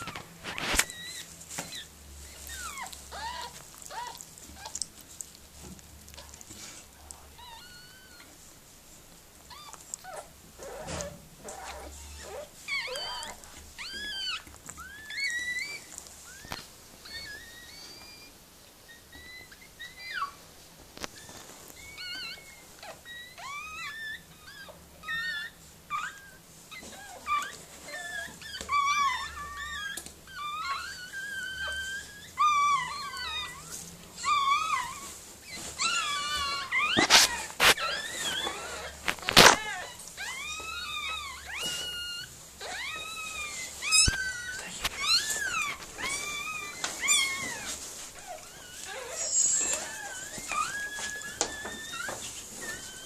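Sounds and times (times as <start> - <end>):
puppies squeaking and whimpering: 0.0 - 8.7, 9.3 - 53.0.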